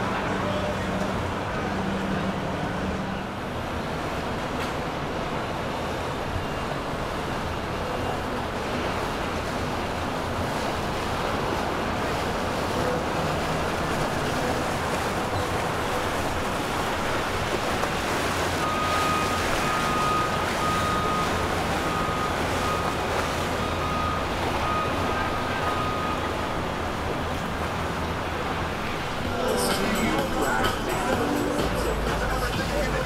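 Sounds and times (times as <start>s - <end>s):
boat wake wash: 0.0s - 33.0s
outboard motors running: 0.0s - 33.0s.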